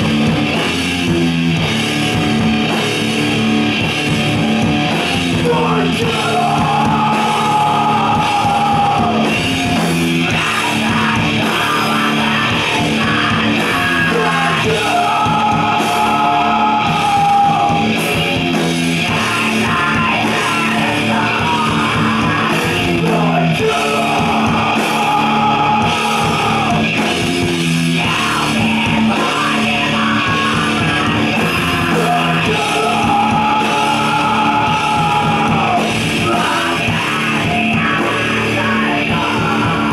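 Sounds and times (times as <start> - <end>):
drum kit: 0.0 - 39.9
electric guitar: 0.0 - 39.9
sung and yelled vocals: 4.3 - 39.9.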